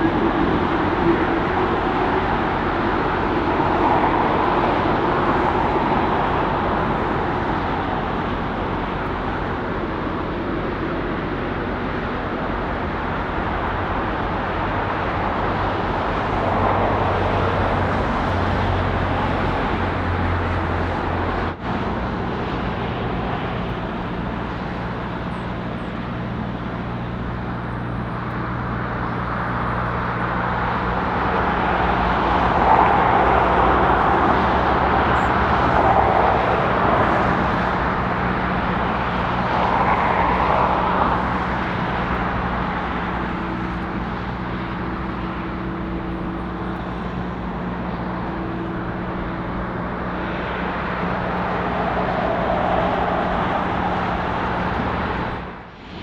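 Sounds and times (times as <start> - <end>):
jet engine rush: 0.0 - 56.0
road traffic noise: 0.0 - 56.0.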